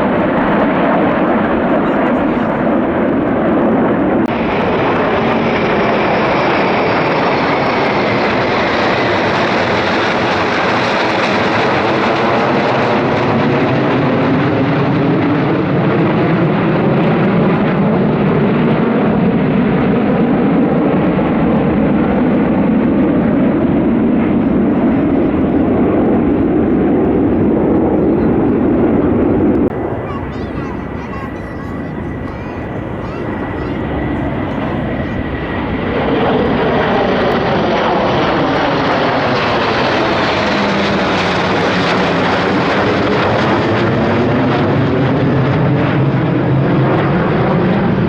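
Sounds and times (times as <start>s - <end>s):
military aircraft flying over: 0.0s - 48.0s.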